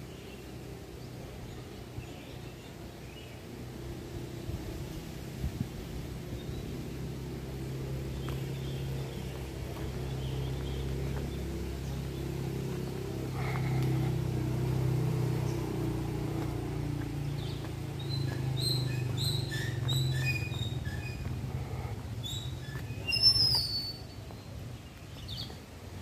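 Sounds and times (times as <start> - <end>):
steady low hum: 0.0 - 23.2
birds chirping: 0.0 - 26.0.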